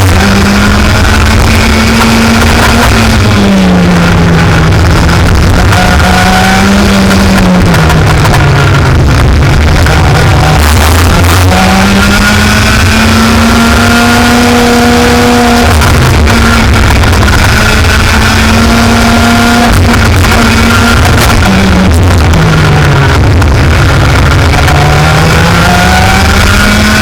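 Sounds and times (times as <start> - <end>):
racing engine revving: 0.0 - 27.0.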